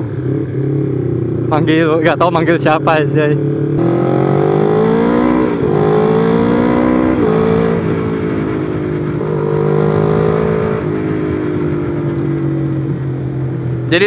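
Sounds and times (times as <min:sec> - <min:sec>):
motorcycle engine revving: 0:00.0 - 0:14.0
wind and road noise: 0:00.0 - 0:14.0.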